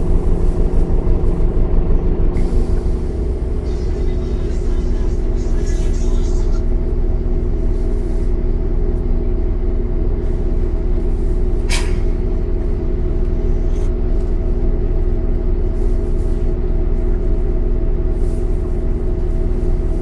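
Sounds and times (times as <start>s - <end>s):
bus diesel engine idling: 0.0s - 20.0s.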